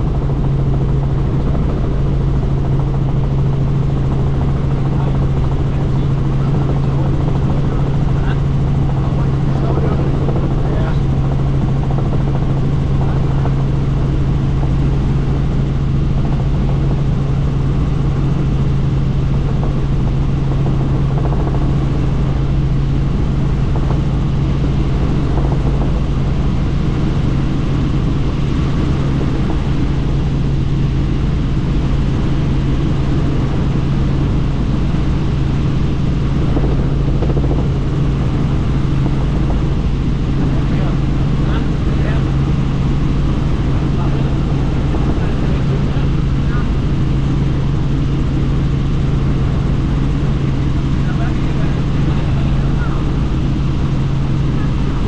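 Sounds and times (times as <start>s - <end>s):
helicopter cabin engine hum: 0.0s - 55.0s.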